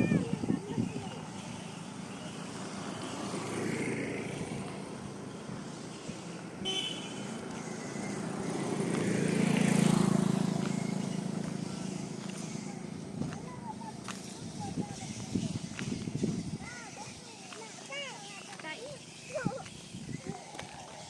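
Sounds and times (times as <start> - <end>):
vehicle passing: 0.0 - 21.0.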